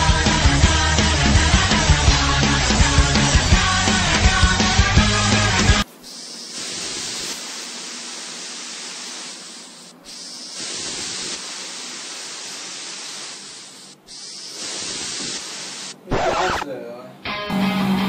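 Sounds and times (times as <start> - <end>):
room noise hiss: 0.0 - 17.3.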